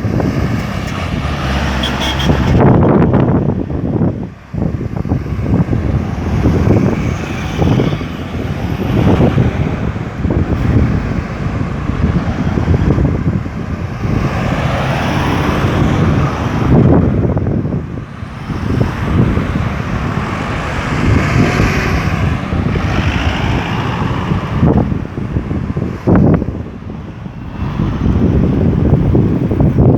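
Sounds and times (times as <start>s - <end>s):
cars and trucks passing: 0.0s - 29.9s.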